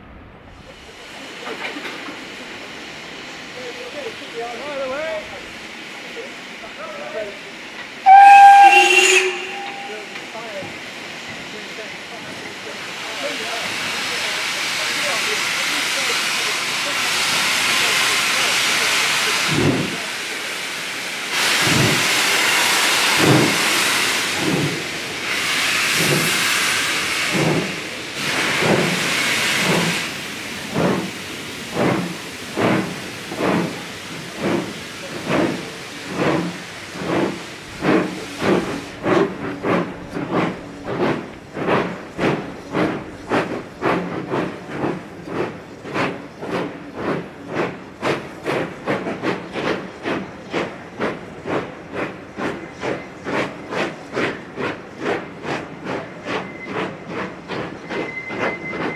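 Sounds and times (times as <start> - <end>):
steam hissing: 0.6 - 58.9
steam locomotive exhaust beats: 8.0 - 10.9, 11.5 - 58.9.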